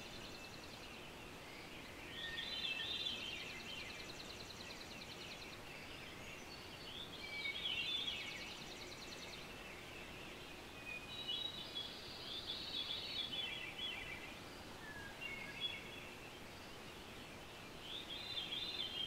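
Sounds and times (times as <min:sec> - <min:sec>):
faint hiss: 0:00.0 - 0:19.0
songbirds singing: 0:00.0 - 0:19.0.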